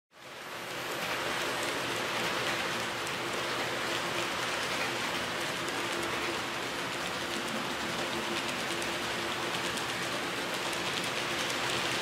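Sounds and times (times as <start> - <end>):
model train wheels rattling: 0.7 - 12.0.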